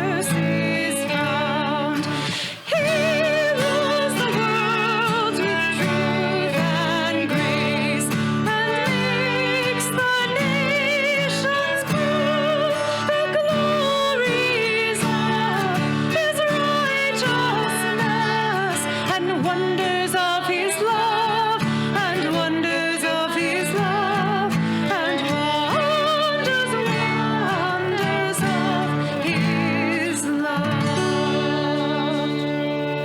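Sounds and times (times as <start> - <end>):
singer with vibrato: 0.0 - 33.0.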